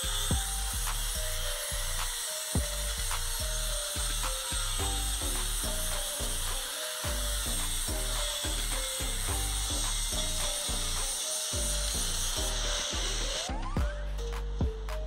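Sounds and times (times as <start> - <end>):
angle grinder grinding metal: 0.0 - 13.8
background music with a beat: 0.0 - 15.0.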